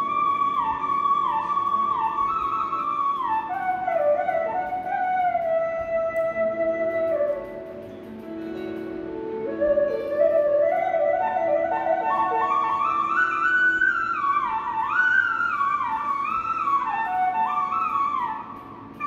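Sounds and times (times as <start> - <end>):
flute melody: 0.0 - 19.0.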